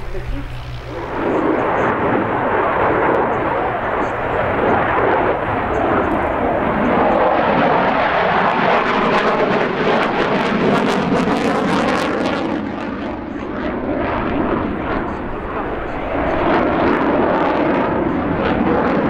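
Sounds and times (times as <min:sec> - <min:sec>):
fighter jet noise: 0:00.0 - 0:19.0.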